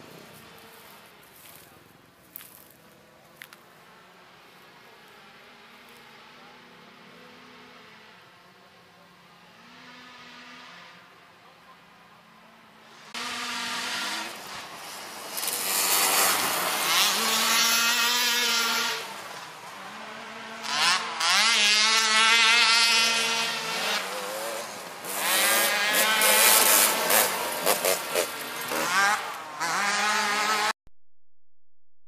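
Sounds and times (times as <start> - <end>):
race engines revving: 3.4 - 11.2, 12.7 - 30.8.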